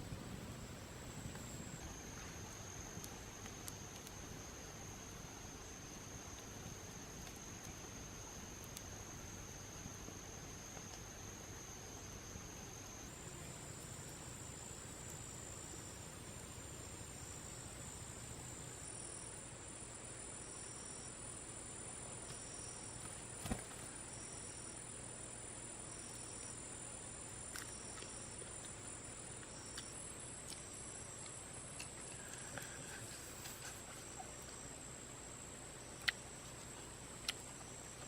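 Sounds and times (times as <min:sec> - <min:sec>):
insects shrilling drone: 0:00.0 - 0:38.0.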